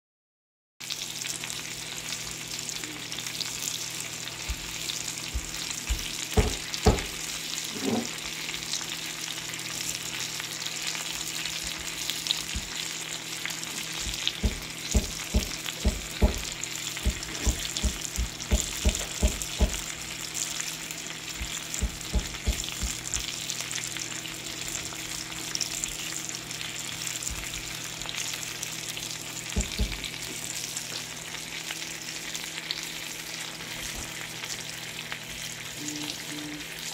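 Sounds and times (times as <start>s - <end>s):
steak sizzling in skillet: 0.8s - 36.9s.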